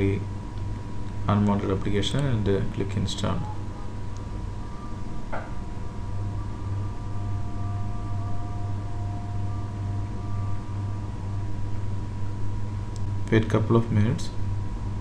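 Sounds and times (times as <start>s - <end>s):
low electrical hum: 0.0s - 15.0s
microphone hiss: 0.0s - 15.0s
faint high steady tone: 0.9s - 14.5s.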